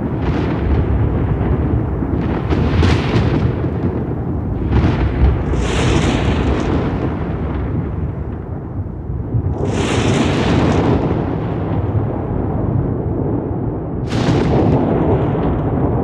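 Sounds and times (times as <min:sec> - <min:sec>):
rolling thunder rumbling: 0:00.0 - 0:16.0
sharp thunder cracks: 0:00.0 - 0:16.0.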